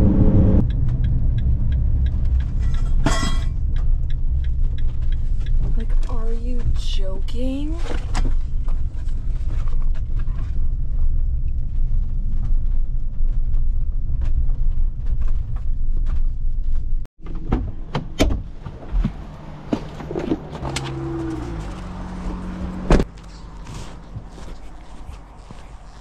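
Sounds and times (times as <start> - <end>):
van driving rumble: 0.0 - 26.0.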